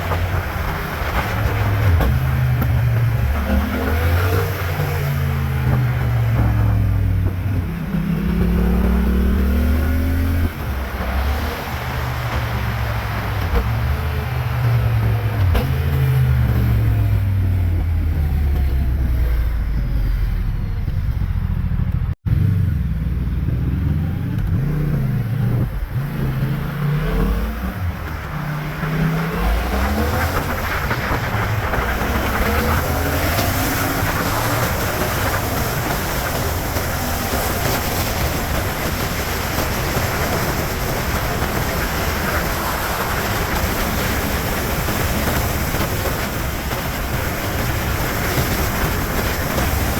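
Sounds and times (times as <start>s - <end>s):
motorcycle engine revving: 0.0s - 49.9s
wind and road rush: 0.0s - 49.9s.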